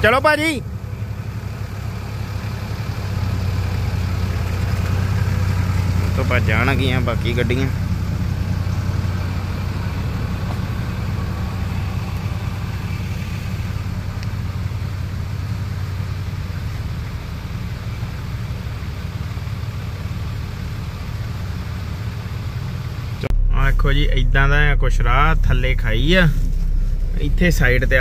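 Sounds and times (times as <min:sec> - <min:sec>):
vehicle engine running low: 0:00.0 - 0:28.0.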